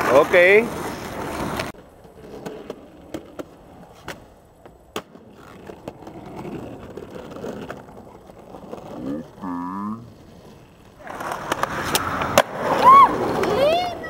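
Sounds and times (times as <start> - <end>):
skateboard wheels rolling: 0.0 - 14.0.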